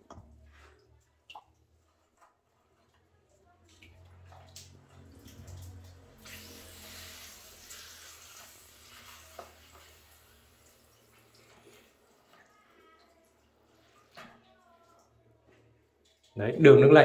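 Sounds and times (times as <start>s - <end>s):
faint trickle of running water: 0.0s - 17.0s.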